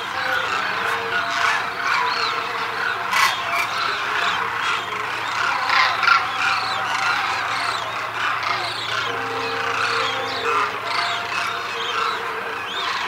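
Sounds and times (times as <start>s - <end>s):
flock of cranes calling: 0.0s - 13.0s.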